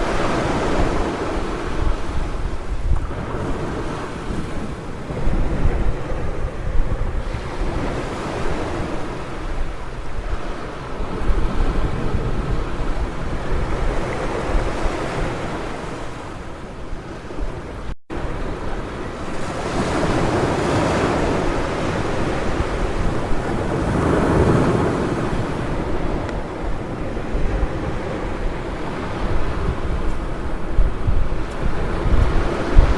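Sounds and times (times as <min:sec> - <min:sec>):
ocean surf washing onto beach: 0:00.0 - 0:32.9
wind buffeting microphone: 0:00.0 - 0:32.9.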